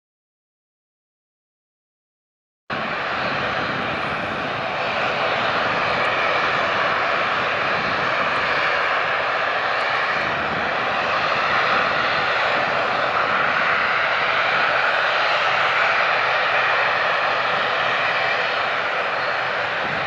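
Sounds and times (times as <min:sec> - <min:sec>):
airliner jet engines running: 0:02.7 - 0:20.0.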